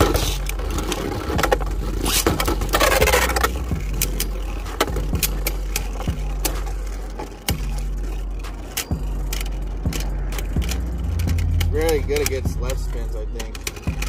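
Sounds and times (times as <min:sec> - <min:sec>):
spinning tops scraping: 0:00.0 - 0:14.0.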